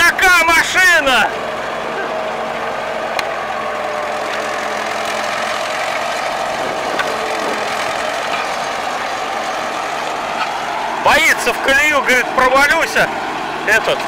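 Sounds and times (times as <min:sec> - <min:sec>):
crawler tractor diesel engine running: 0:00.0 - 0:14.0.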